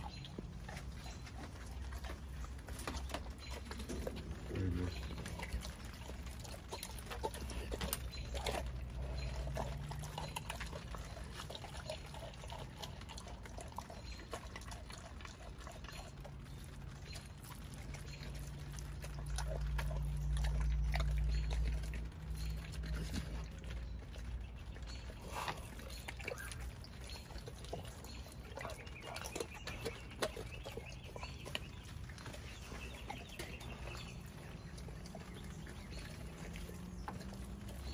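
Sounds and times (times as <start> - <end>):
dog chewing wet smacking: 0.0 - 37.9.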